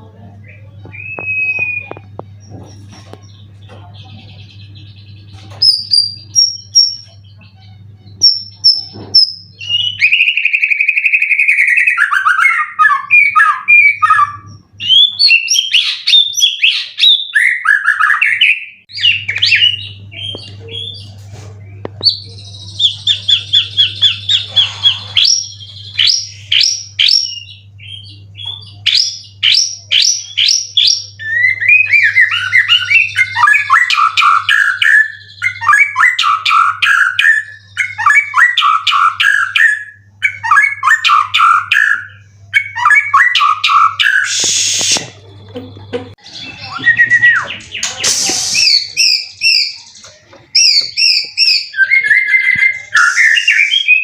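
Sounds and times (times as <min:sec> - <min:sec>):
bird singing varied song: 0:00.2 - 0:45.1, 0:45.8 - 0:54.0.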